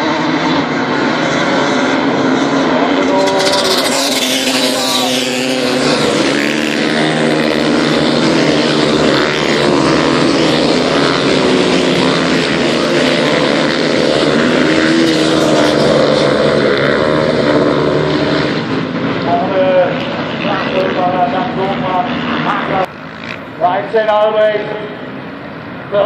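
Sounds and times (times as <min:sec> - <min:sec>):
racing motorcycles revving past: 0:00.0 - 0:26.0.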